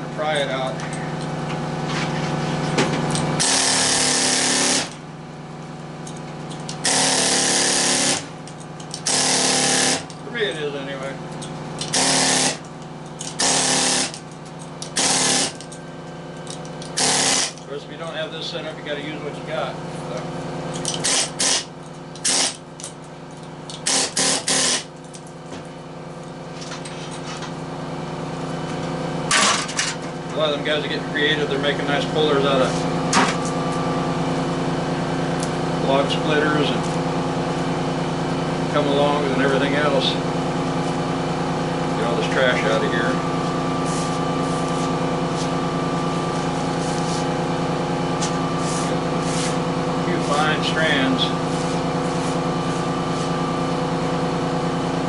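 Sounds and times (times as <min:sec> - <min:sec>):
steady low hum: 0:00.0 - 0:55.0
power tool running: 0:00.8 - 0:17.7, 0:19.8 - 0:30.6, 0:31.4 - 0:55.0.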